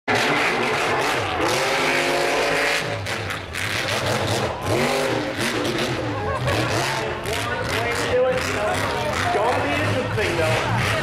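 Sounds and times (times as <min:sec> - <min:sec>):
truck engine revving hard: 0:00.1 - 0:11.0.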